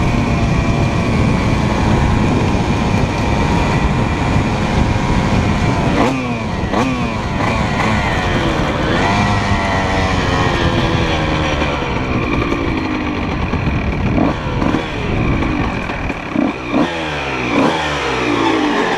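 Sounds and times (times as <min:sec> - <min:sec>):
two-stroke engine revving: 0:00.0 - 0:18.9.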